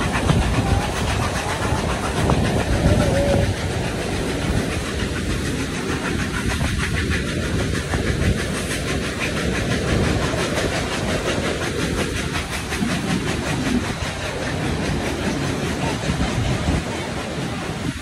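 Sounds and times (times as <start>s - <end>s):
steam locomotive exhaust beats: 0.0s - 18.0s
train wheels rumbling on rails: 0.0s - 18.0s.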